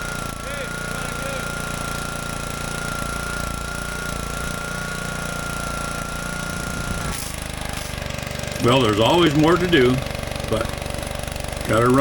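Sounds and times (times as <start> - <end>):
pressure washer engine running: 0.0 - 12.0
thin steady whine: 0.0 - 12.0.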